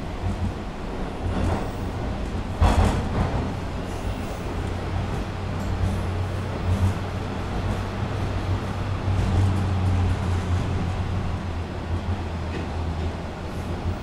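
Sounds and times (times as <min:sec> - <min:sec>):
subway car wheels rumbling: 0:00.0 - 0:14.0.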